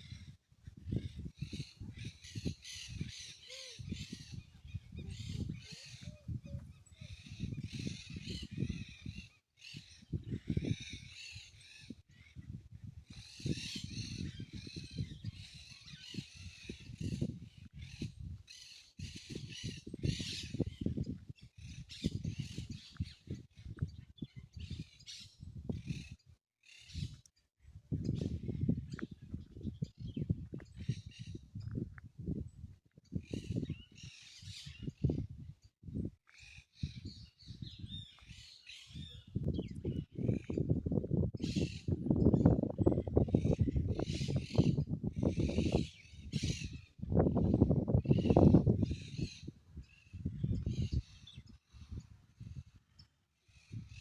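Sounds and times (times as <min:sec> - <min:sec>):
birds chirping and calling: 0:00.0 - 0:27.2, 0:27.9 - 0:31.8, 0:33.1 - 0:40.8, 0:41.4 - 0:54.0.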